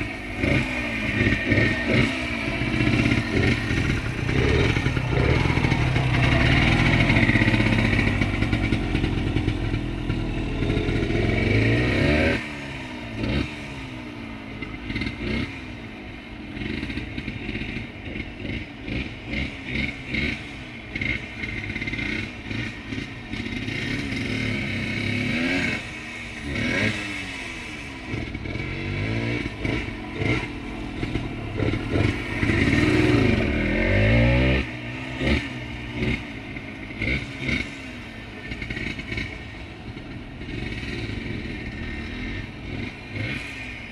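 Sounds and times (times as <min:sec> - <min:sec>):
two-stroke motorcycle engine revving: 0:00.0 - 0:43.9.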